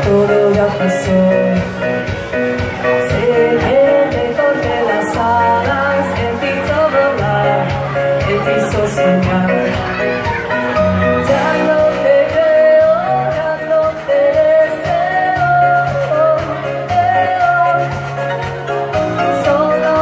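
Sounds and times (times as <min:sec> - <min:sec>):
woman singing into a microphone: 0:00.0 - 0:02.2, 0:02.8 - 0:10.4, 0:11.1 - 0:20.0
pop backing track with bass: 0:00.0 - 0:20.0.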